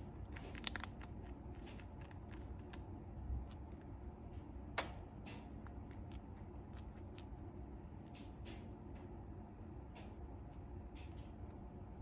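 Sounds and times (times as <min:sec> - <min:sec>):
chinchilla crunching food: 0:00.0 - 0:11.8.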